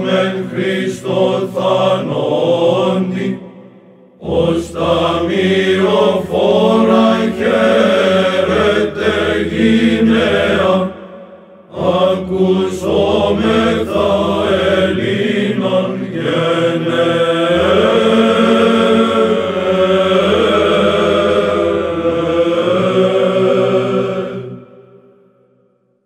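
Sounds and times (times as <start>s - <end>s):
choir chanting over a drone: 0.0s - 25.5s.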